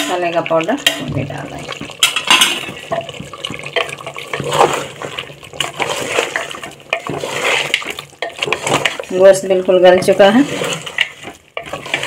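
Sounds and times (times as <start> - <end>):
spatula scraping metal pot: 0.0 - 12.0.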